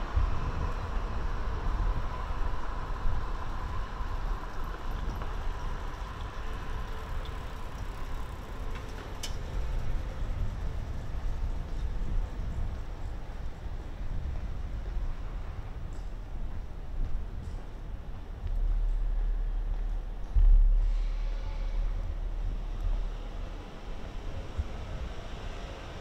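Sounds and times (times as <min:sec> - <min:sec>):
distant traffic rumble: 0:00.0 - 0:26.0.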